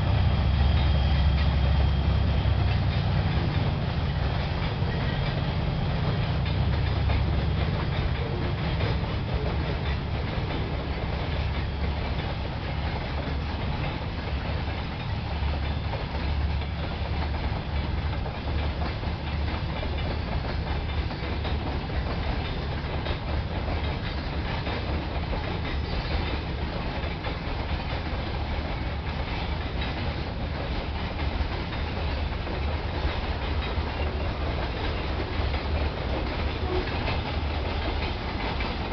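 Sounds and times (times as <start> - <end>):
diesel locomotive rumble: 0.0 - 38.9
wheels clattering over rail joints: 0.0 - 38.9.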